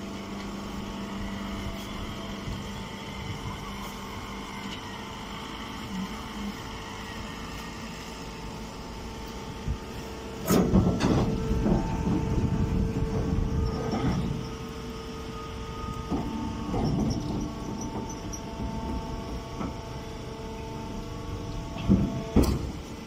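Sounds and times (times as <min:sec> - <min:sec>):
baler machine hum: 0:00.0 - 0:23.0.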